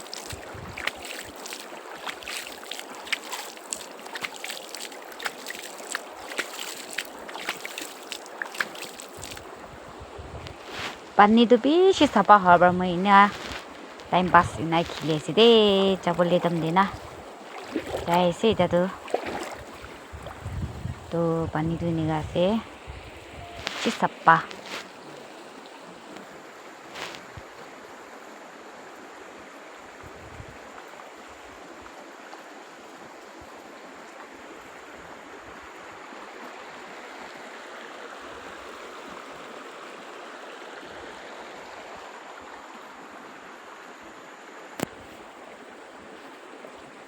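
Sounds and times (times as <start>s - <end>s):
stream water flowing: 0.0s - 47.0s.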